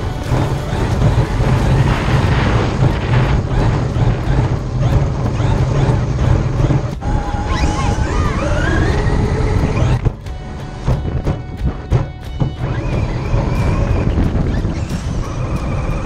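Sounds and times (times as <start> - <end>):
high gliding tones: 0.0 - 16.0
music with heavy bass beat: 0.0 - 16.0.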